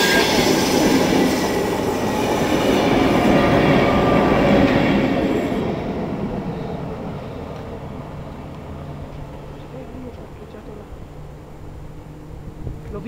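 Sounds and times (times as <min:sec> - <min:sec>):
train passing on rails: 0:00.0 - 0:13.0.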